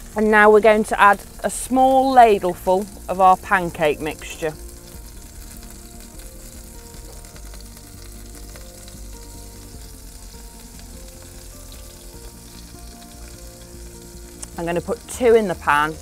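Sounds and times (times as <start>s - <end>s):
oil sizzling in a frying pan: 0.0s - 16.0s
batter pouring into pan: 1.1s - 16.0s.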